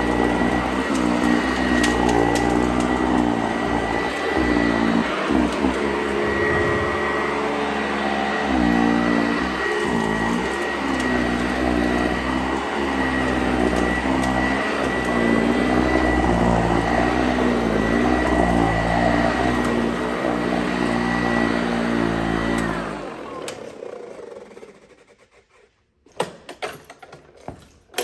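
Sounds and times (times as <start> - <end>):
vacuum cleaner running: 0.0 - 25.3.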